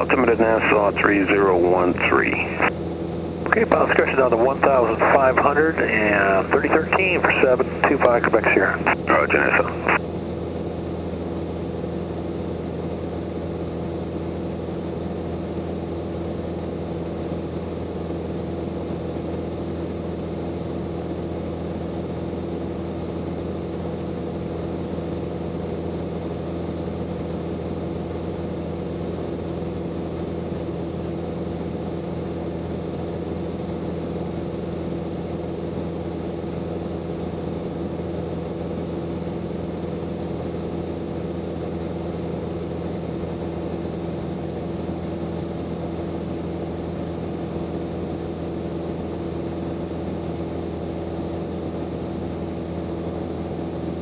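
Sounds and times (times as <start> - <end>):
airplane engine droning: 0.0 - 54.0.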